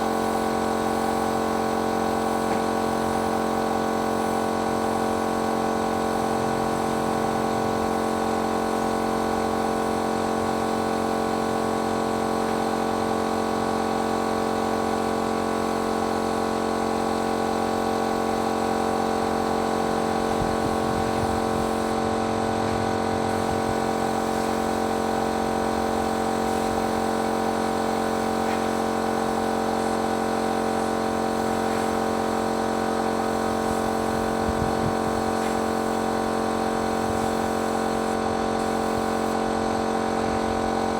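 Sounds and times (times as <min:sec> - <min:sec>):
paint sprayer motor humming: 0:00.1 - 0:11.9, 0:16.0 - 0:40.9.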